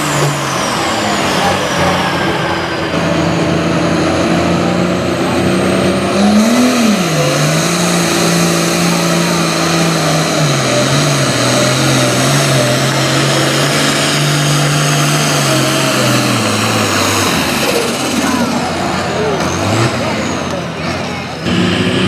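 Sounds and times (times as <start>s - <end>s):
tractor diesel engine roaring: 0.0s - 22.0s.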